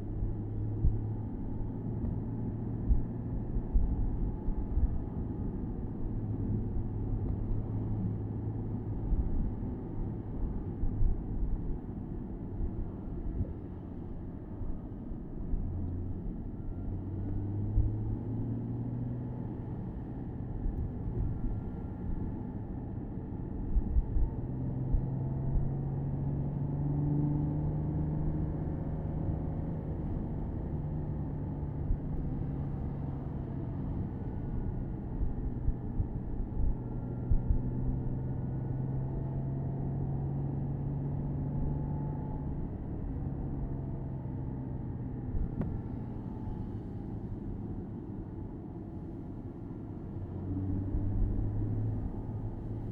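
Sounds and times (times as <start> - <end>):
car engine while driving: 0.0 - 52.9.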